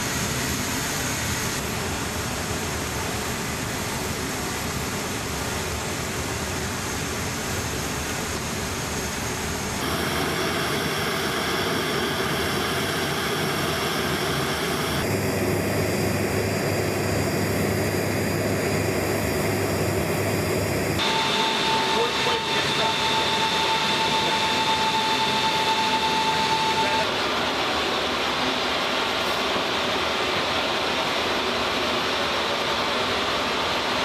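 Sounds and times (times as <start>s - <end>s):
jet aircraft rushing with faint whine: 0.0s - 34.0s.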